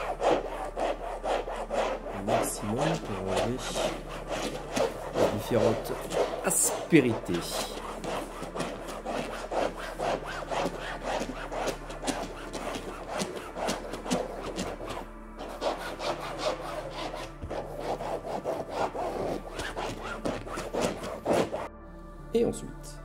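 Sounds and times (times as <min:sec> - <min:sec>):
brush scrubbing fabric: 0:00.0 - 0:21.7.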